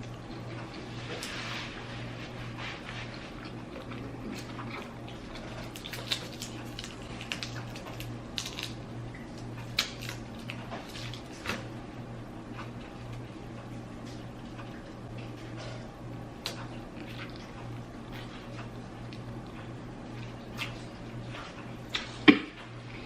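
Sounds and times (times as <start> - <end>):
low steady hum: 0.0 - 23.0
wet chewing: 2.5 - 11.7, 12.5 - 22.3.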